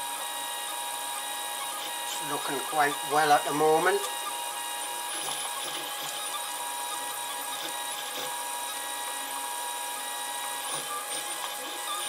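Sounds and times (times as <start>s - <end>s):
three d printer motors whining: 0.0s - 12.0s.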